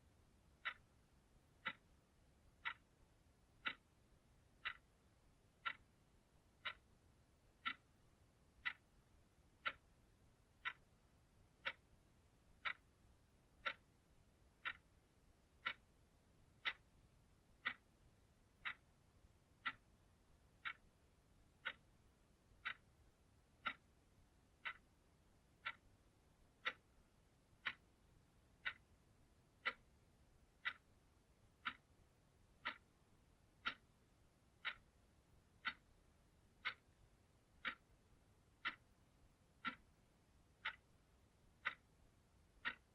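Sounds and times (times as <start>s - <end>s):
clock ticking: 0.0s - 42.9s.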